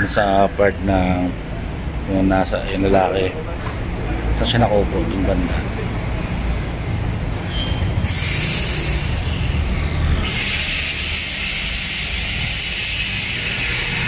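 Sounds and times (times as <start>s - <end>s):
low street traffic rumble: 0.0s - 14.0s.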